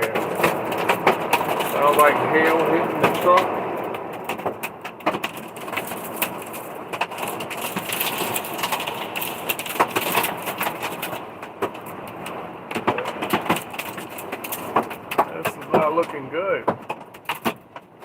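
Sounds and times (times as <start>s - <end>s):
hail striking a vehicle: 0.0s - 18.0s
heavy rain: 0.0s - 18.0s.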